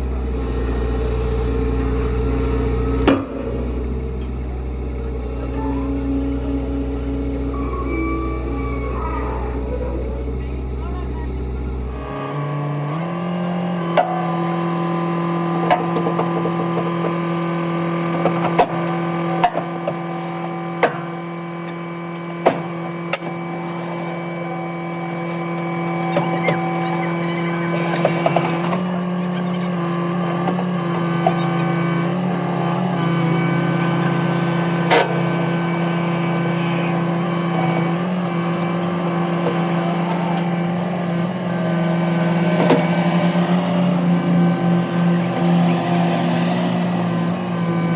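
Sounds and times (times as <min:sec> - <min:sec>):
machine humming: 0:00.0 - 0:47.9.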